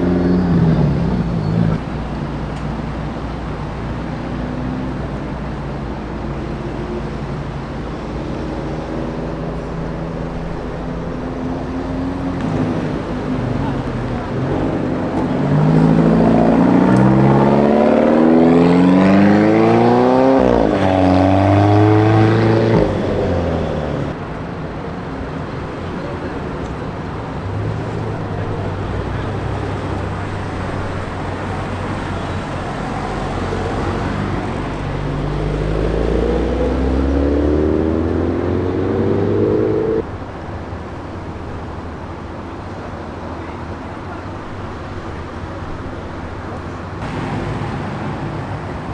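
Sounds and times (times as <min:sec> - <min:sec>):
low engine rumble: 0:00.0 - 0:18.8, 0:19.5 - 0:48.9
cars accelerating hard: 0:00.0 - 0:24.3, 0:25.2 - 0:40.4, 0:46.8 - 0:48.9.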